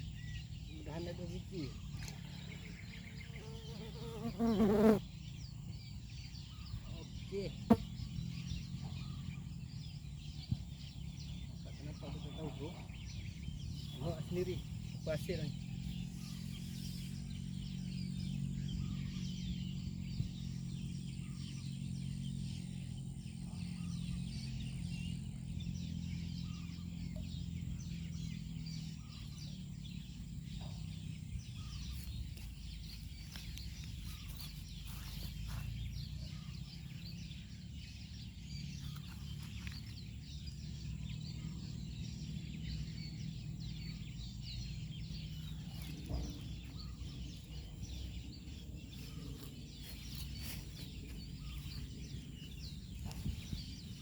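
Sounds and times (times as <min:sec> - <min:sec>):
steady low rumble: 0:08.0 - 0:54.0.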